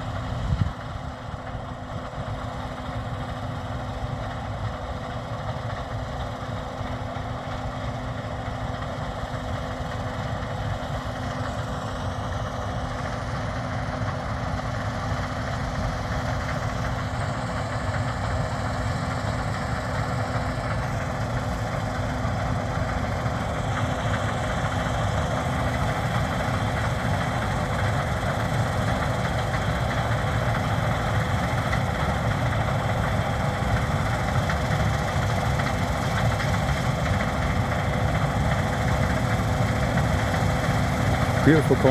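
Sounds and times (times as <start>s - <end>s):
combine harvester machinery drone: 0.0s - 41.9s.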